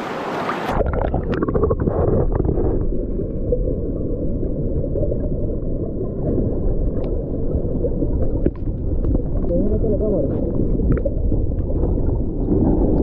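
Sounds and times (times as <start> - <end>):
underwater river rumble: 0.0 - 13.0
underwater clicks and bubbling: 0.5 - 13.0.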